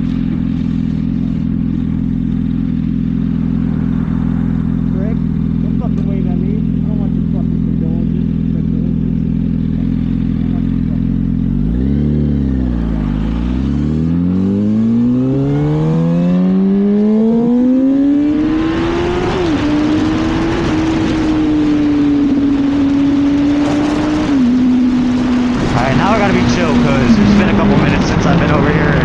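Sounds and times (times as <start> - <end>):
rushing wind: 0.0 - 6.0, 11.5 - 29.0
motorcycle engine: 0.0 - 29.0.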